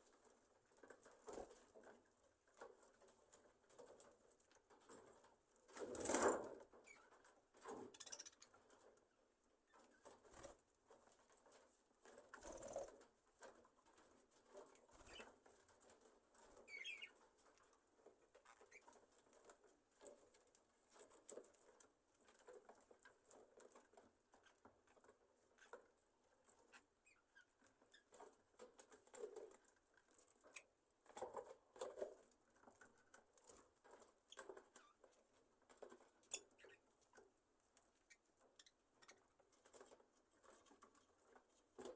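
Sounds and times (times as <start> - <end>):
faint rustling and tapping: 0.0 - 41.9.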